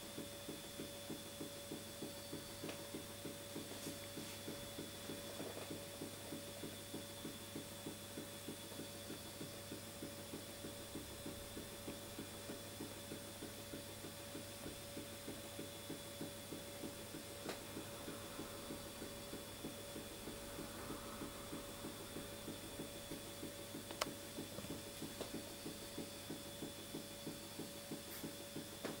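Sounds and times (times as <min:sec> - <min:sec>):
model engine knocking softly: 0:00.2 - 0:29.0.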